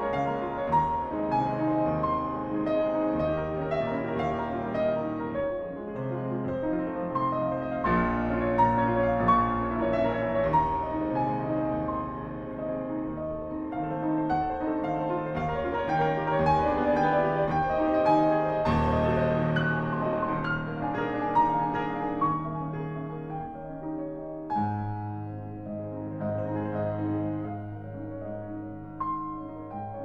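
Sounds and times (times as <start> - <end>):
instrumental piano music: 0.0 - 30.0.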